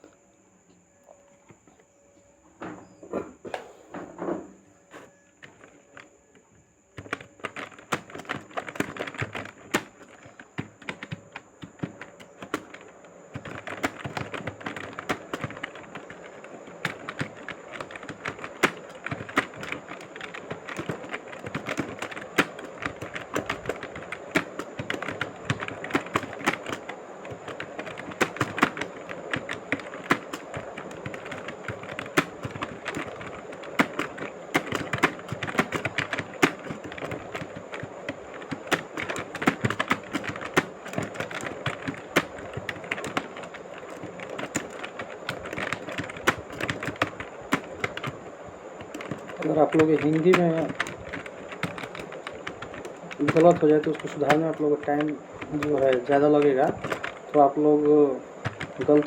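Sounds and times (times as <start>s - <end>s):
faint high whine: 0.0s - 59.0s
fast keyboard typing: 5.4s - 6.2s, 6.9s - 59.0s.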